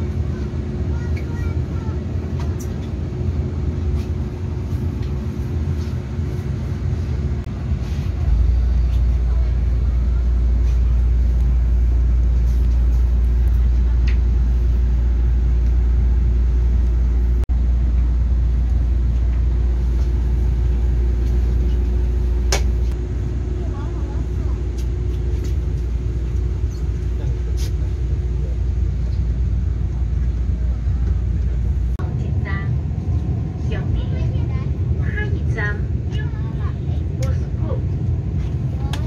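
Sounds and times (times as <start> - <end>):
constant hum: 0.0 - 39.0
train cabin rumble: 0.0 - 39.0.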